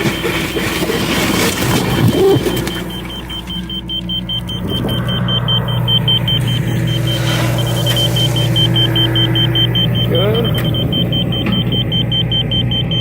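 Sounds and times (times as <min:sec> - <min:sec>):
diesel engine running: 0:00.0 - 0:13.0
rapid high-pitched beeping: 0:00.0 - 0:13.0.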